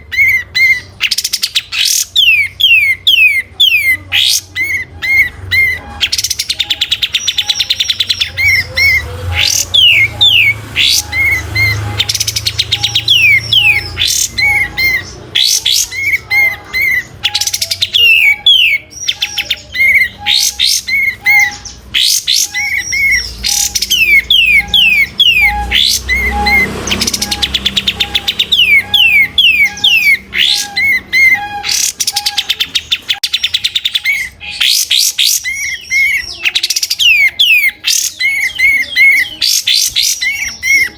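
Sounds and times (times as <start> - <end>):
bird singing whistled chirps: 0.0 - 40.9.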